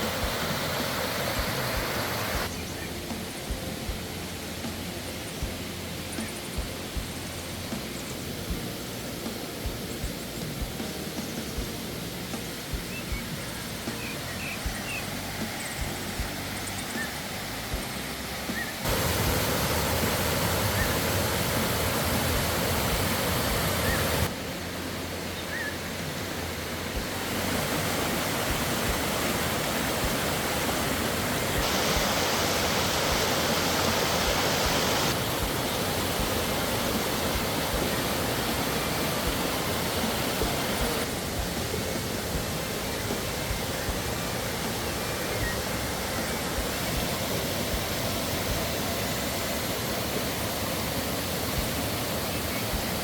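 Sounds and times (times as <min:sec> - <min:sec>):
waterfall rushing and splashing: 0:00.0 - 0:53.0.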